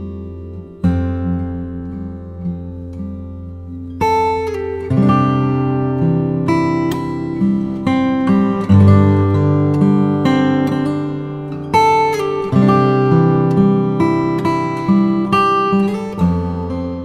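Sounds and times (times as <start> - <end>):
acoustic guitar playing chords: 0.0 - 17.0.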